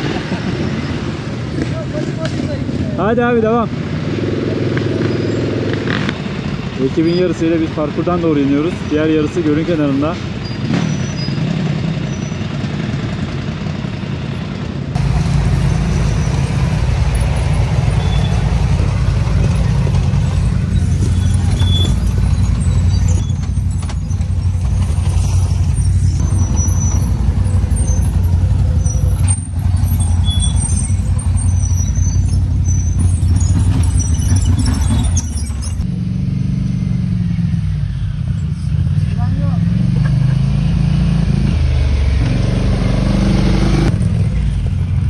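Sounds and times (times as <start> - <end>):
quad bike engine droning: 0.0 - 45.0.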